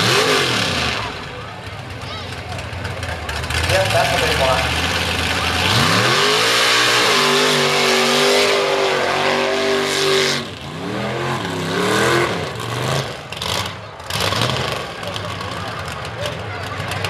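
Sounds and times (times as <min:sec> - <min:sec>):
tires churning mud: 0:00.0 - 0:17.0
truck engine revving: 0:00.0 - 0:17.0.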